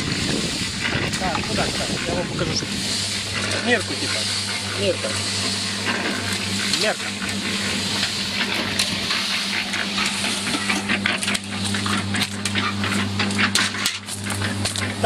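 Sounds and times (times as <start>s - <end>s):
concrete mixer humming: 0.0s - 15.0s
gritty mix rattling in drum: 0.0s - 15.0s.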